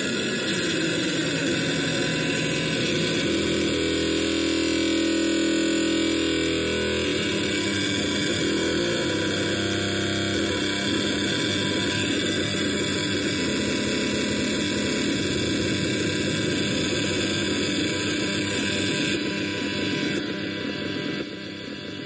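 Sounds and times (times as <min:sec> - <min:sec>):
noisy synthesizer drone: 0:00.0 - 0:22.0.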